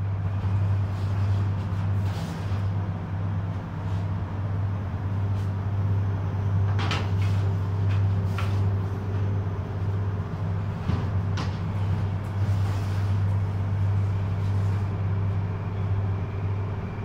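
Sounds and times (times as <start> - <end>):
ventilation fans humming: 0.0 - 17.0.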